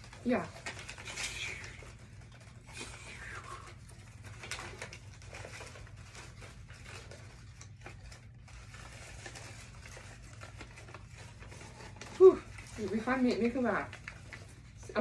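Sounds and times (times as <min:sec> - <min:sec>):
paper and cardboard rustling: 0:00.0 - 0:15.0.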